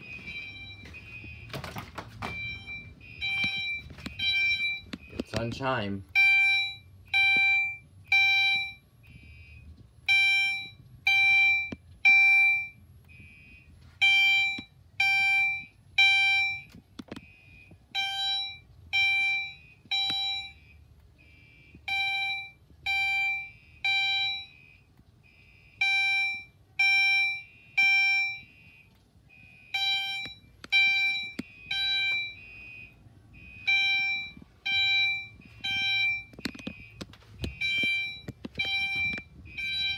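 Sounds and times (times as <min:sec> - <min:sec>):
fire alarm chimes: 0:00.0 - 0:39.9.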